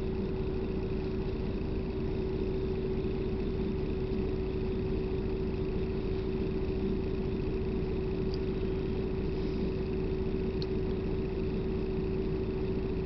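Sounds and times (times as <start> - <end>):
bus engine and road rumble: 0.0 - 13.0
constant hum tone: 0.0 - 13.0.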